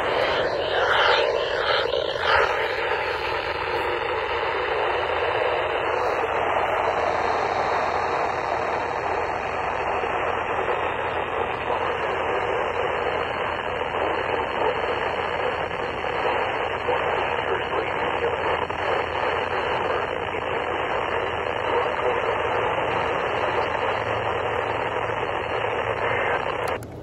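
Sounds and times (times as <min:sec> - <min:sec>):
faint radio tones: 0:00.0 - 0:27.0
radio static hiss: 0:00.0 - 0:27.0.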